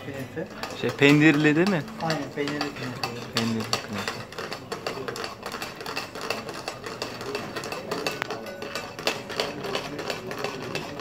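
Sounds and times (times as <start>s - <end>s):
metal utensils scraping steel pan: 0.1s - 11.0s.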